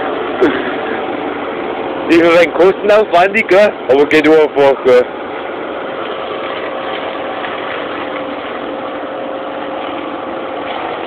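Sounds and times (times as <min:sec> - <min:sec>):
steady machine whine: 0:00.0 - 0:11.0
tractor engine and flail mower: 0:00.0 - 0:11.0.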